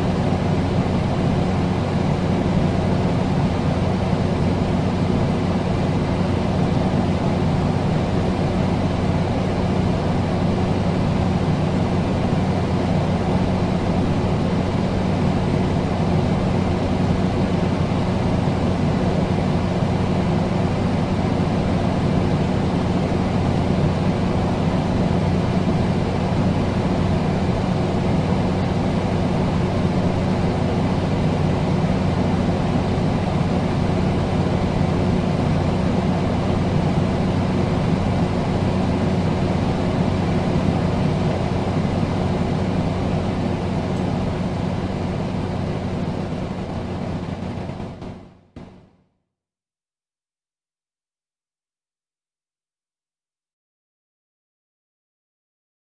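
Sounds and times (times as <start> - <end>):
air conditioner running: 0.0 - 48.8.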